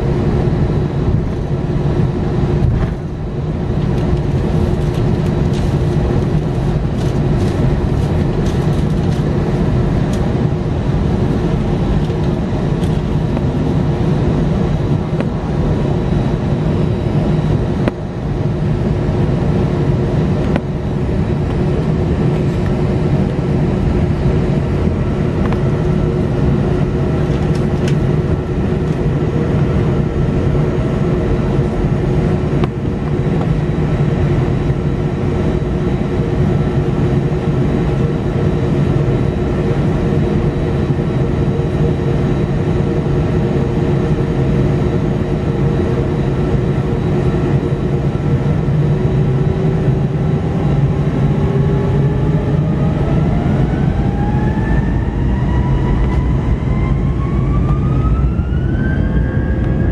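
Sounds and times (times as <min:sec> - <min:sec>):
jet engine whine rising: 0:00.0 - 0:59.9
jet engines idling from cabin: 0:00.0 - 0:59.9.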